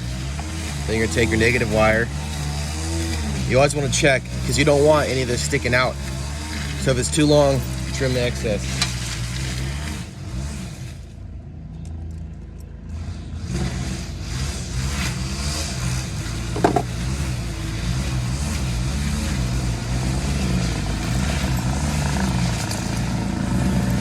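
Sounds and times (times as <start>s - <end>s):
vehicle engine running: 0.0s - 11.1s, 13.4s - 24.0s.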